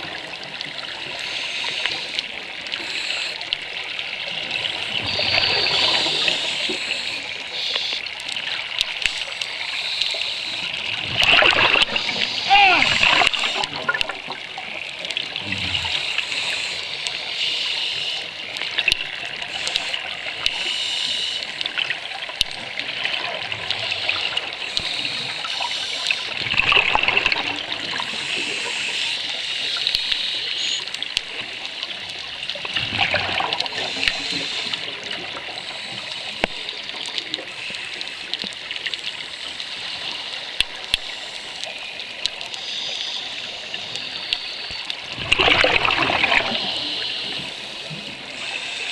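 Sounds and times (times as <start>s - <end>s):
underwater bubbling from divers: 0.0s - 48.9s.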